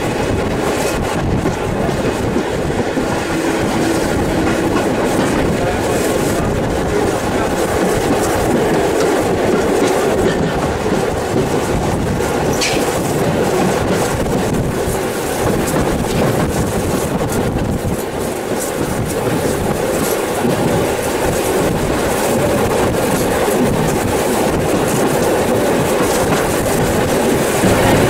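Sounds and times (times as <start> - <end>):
train wheels rumbling on track: 0.0 - 28.0
wheels clicking over rail joints: 0.0 - 28.0.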